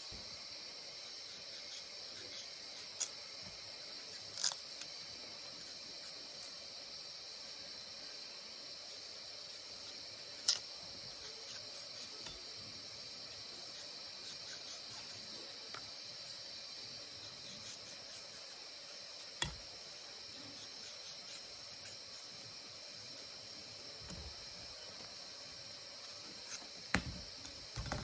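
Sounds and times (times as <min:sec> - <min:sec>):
high-pitched insect chirring: 0:00.0 - 0:27.8.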